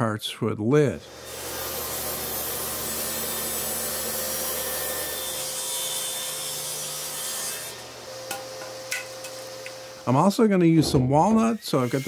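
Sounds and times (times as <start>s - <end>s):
table saw cutting wood: 1.0s - 12.0s.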